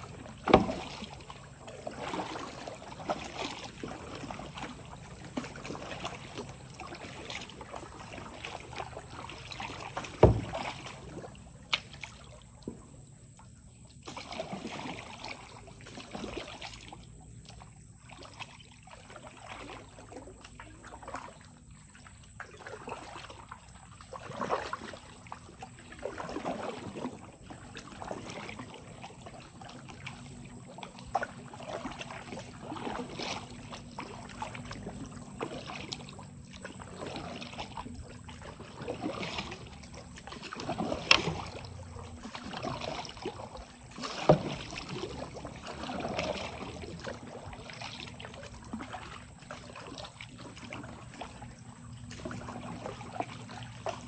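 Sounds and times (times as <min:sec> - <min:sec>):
water splashing and sloshing: 0:00.0 - 0:54.0.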